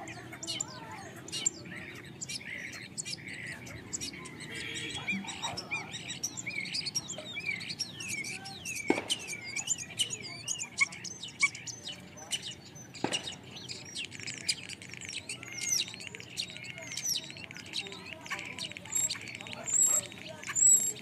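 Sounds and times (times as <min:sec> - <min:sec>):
sharp clicking bird notes: 0:00.0 - 0:21.0
starlings chirping and whistling: 0:00.0 - 0:21.0.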